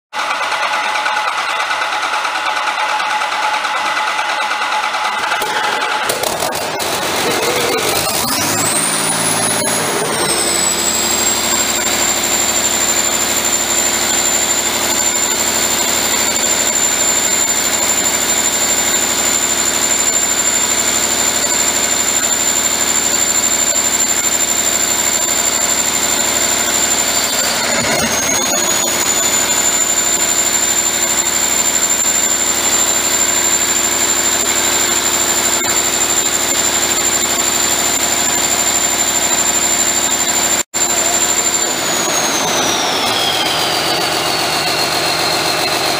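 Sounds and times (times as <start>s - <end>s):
high whine: 3.7s - 45.9s.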